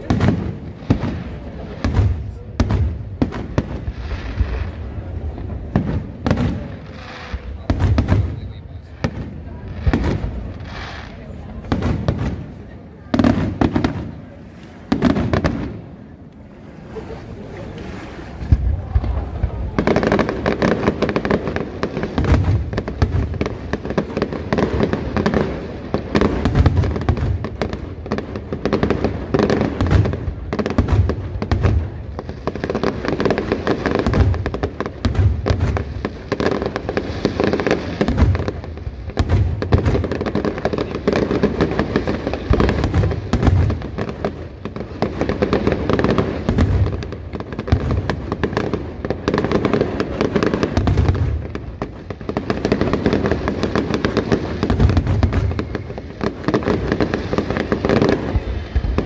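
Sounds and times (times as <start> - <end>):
fireworks booming: 0.0 - 59.0
fireworks cracks: 0.0 - 59.0.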